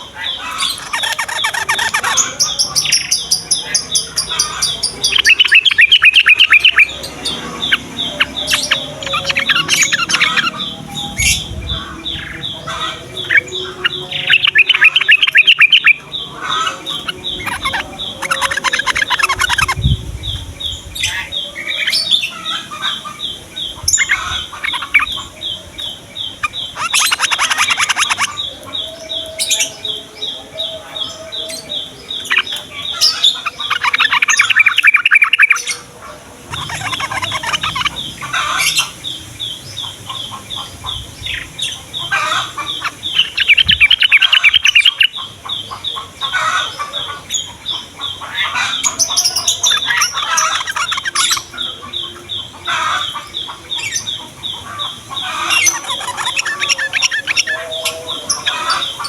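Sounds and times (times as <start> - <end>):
birds chattering and singing: 0.0 - 59.0.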